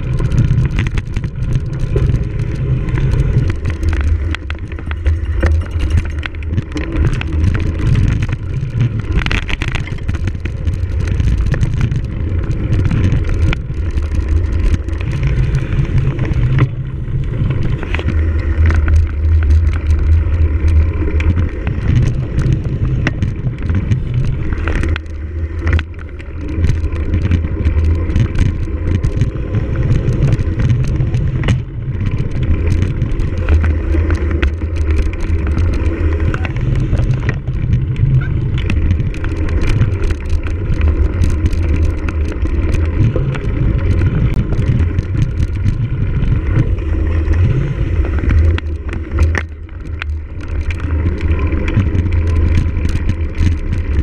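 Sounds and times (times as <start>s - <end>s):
bike frame rattling: 0.0s - 54.0s
wind rumble on microphone: 0.0s - 54.0s.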